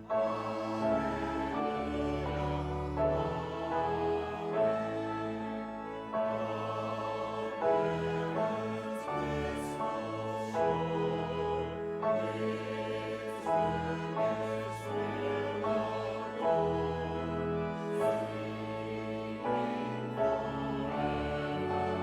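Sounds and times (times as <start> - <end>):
organ chords: 0.0 - 22.0
voices singing a hymn: 0.0 - 22.0.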